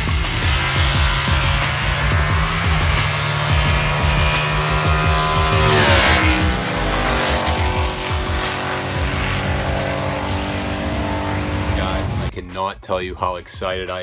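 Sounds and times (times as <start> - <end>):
race car engine: 0.0 - 12.3
background music: 0.0 - 14.0.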